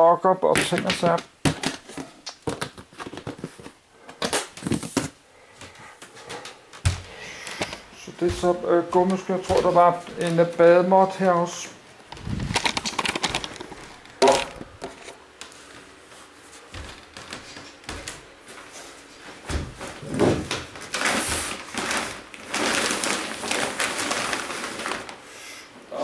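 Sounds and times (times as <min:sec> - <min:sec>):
plastic bags rustling: 0:00.6 - 0:26.0.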